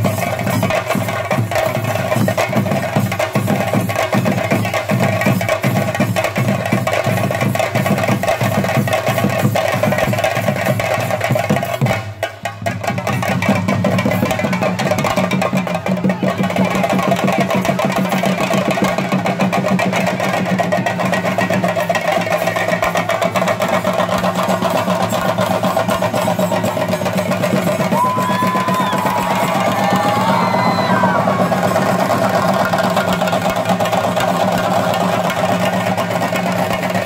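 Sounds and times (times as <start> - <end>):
fast drumming: 0.0 - 37.0.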